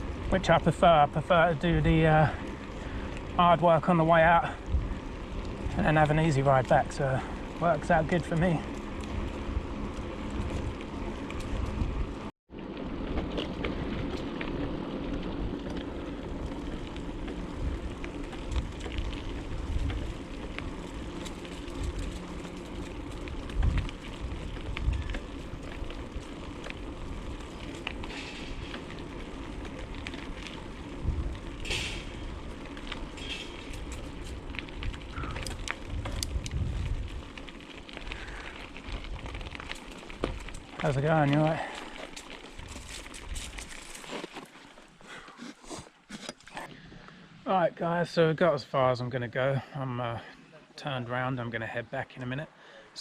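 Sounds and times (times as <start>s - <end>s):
bicycle rattles and clicks: 0.0s - 47.4s
bicycle tyres rolling: 0.0s - 53.0s.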